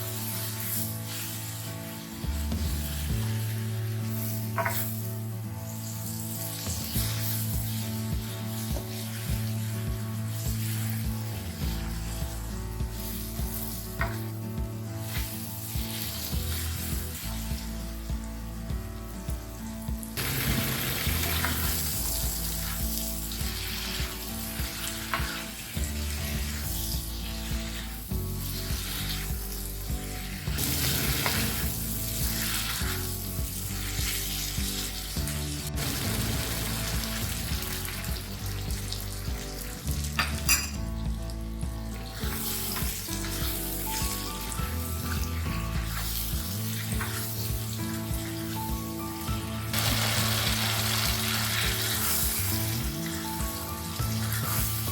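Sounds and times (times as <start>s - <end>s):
food sizzling in hot oil: 0.0s - 54.9s
instrumental background music: 0.0s - 54.9s.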